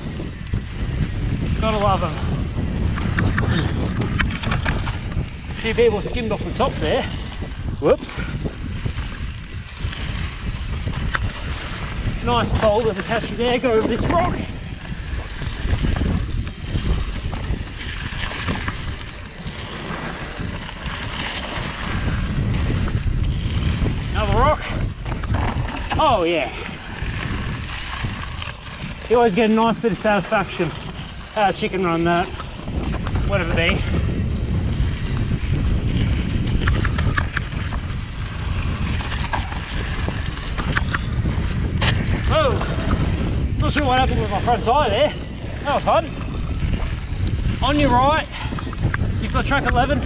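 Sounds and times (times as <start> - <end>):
bike rattling: 0.0 - 50.0
tyres rolling on dirt: 0.0 - 50.0
wind buffeting camera: 0.0 - 50.0.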